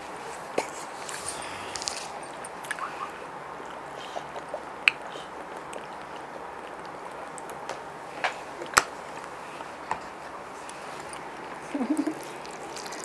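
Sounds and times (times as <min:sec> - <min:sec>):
chewing: 0:00.6 - 0:13.0.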